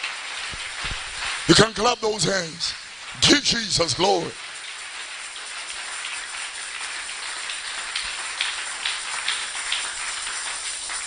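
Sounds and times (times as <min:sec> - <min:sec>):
crowd applauding: 0:00.0 - 0:11.0
individual loud claps: 0:00.0 - 0:11.0.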